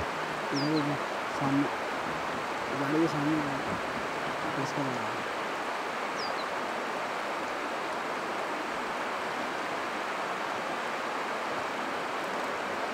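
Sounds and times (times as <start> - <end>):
flowing river water: 0.0 - 12.9.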